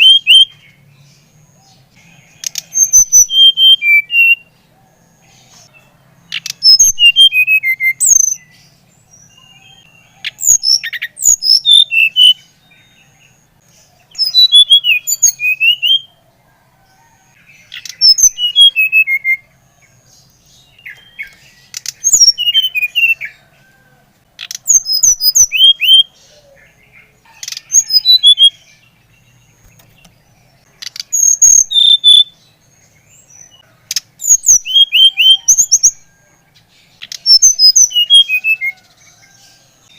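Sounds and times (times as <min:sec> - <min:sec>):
bird singing whistled notes: 0:00.0 - 0:01.4, 0:02.0 - 0:16.2, 0:17.6 - 0:23.4, 0:24.4 - 0:29.5, 0:30.8 - 0:33.6, 0:34.2 - 0:36.2, 0:36.9 - 0:38.9.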